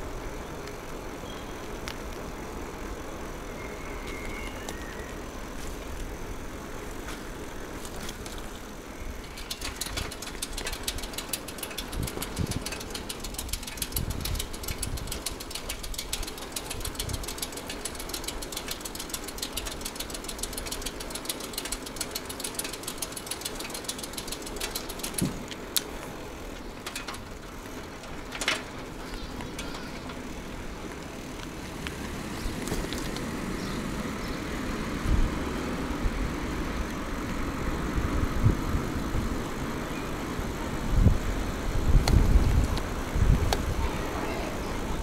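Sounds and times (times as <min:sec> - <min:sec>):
bicycle freewheel ticking: 0:00.0 - 0:45.0
tyre and road noise: 0:00.0 - 0:45.0.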